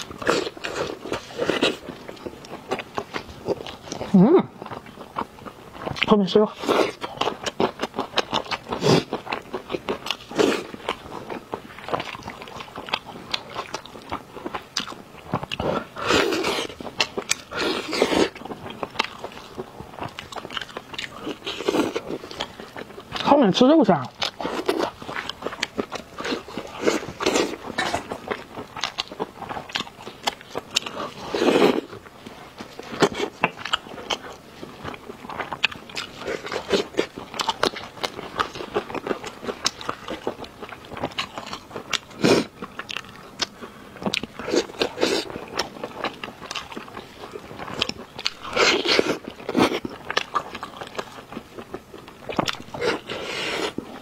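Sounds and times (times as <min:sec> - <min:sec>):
wet chewing and lip smacking: 0:00.0 - 0:23.4, 0:24.0 - 0:54.0.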